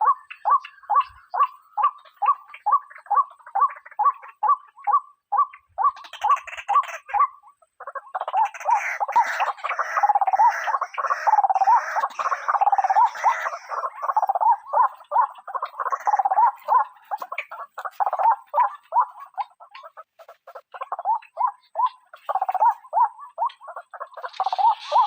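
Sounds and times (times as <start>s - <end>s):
waterhen croaking calls: 0.0s - 25.0s.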